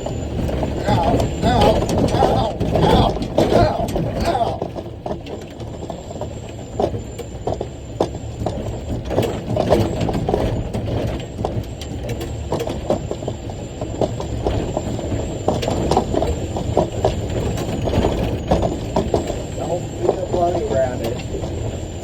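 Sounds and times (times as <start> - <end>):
rattling and clunking knocks: 0.0 - 21.9
truck diesel engine labouring: 0.0 - 22.0.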